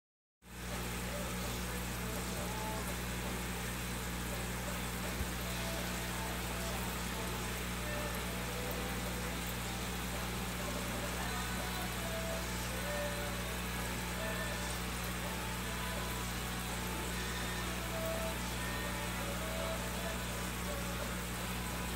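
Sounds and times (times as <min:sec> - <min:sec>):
air pump hum: 0:00.5 - 0:21.9.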